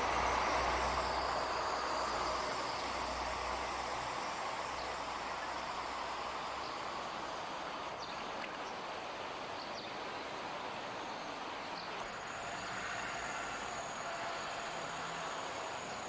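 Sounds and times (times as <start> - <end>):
thin high whine: 0.0 - 8.9, 9.8 - 16.0
outdoor background hiss: 0.0 - 16.0.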